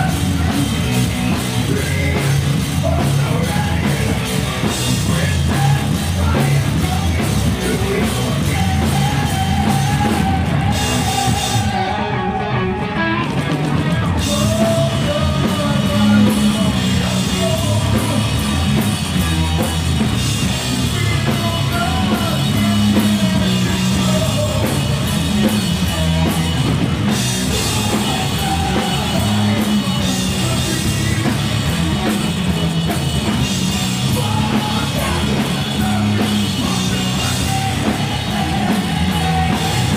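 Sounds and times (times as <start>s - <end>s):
person singing: 0.0s - 18.8s, 20.6s - 26.8s, 27.4s - 32.3s, 33.6s - 39.9s
distorted electric guitars: 0.0s - 39.9s
drum kit: 0.0s - 39.9s
rock band playing live: 0.0s - 39.9s.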